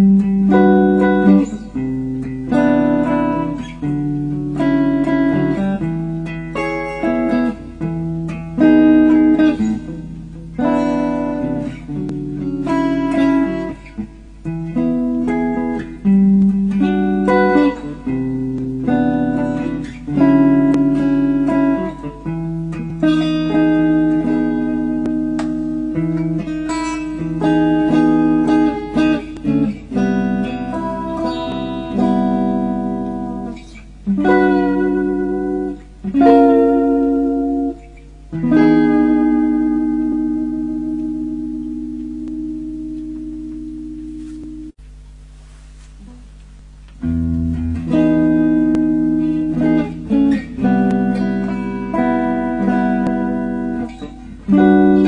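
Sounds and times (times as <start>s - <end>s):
plucked guitar music: 0.0s - 55.0s.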